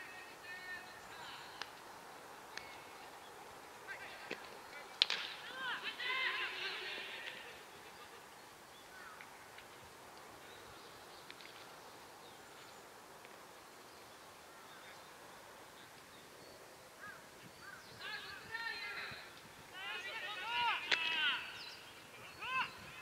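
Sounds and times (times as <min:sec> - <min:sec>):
distant shouted calls: 0:00.0 - 0:09.7, 0:13.8 - 0:23.0
faint background hiss: 0:00.0 - 0:23.0.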